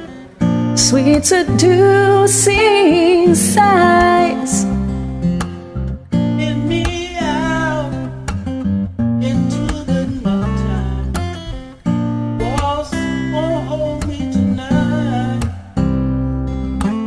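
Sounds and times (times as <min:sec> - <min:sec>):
acoustic guitar instrumental music: 0:00.0 - 0:17.0.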